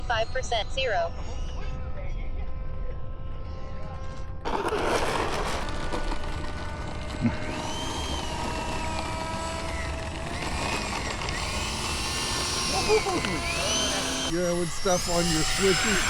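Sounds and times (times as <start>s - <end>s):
model jet fan whine: 0.0s - 16.0s.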